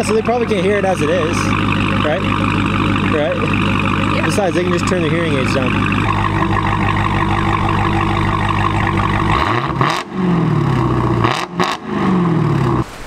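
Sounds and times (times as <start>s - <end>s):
car engine idling and revving: 0.0s - 12.9s.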